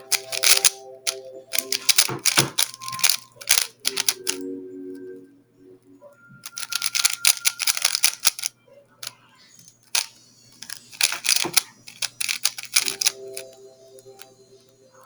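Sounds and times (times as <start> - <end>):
puzzle cube plastic clicking: 0.0 - 4.4, 6.4 - 14.4.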